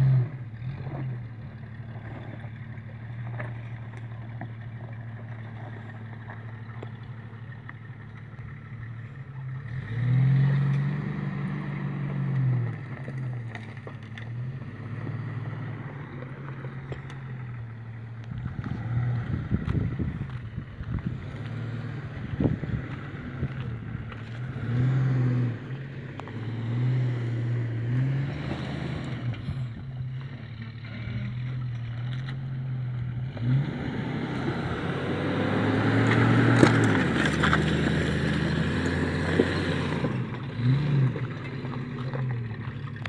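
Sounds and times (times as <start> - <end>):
engine revving: 0.0 - 6.5, 8.5 - 43.0
tyres on dirt and gravel: 0.0 - 43.0.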